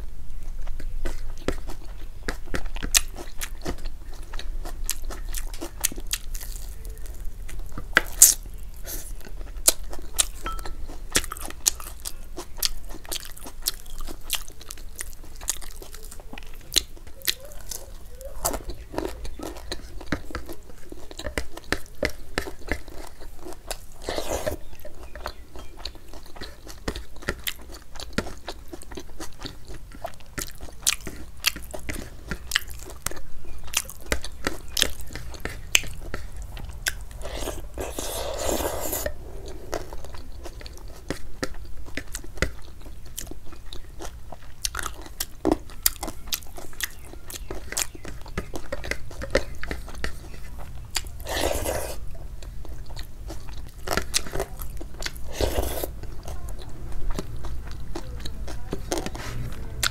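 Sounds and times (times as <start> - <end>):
wet chewing and lip smacks: 0.4 - 59.9.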